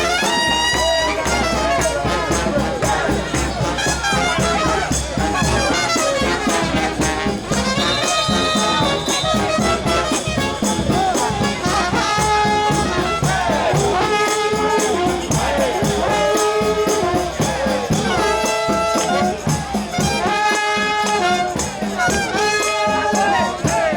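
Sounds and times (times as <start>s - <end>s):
brass band playing: 0.0s - 23.9s.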